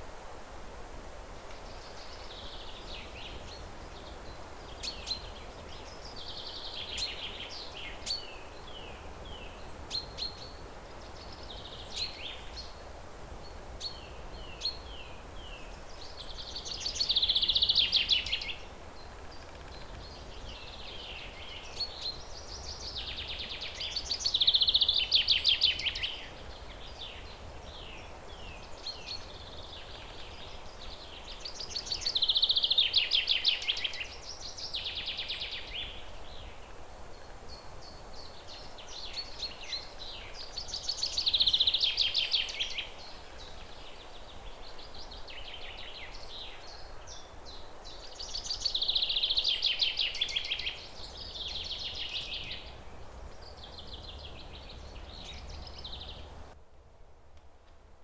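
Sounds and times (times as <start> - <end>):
steady background hiss: 0.0 - 58.0
songbird singing: 1.4 - 56.6.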